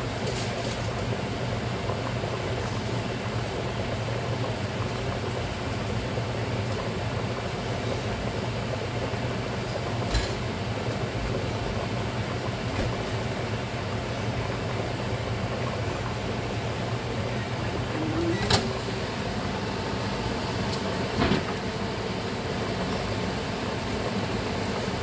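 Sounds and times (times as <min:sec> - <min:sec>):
kitchen vent fan whirring: 0:00.0 - 0:25.0
water boiling in pot: 0:00.0 - 0:25.0.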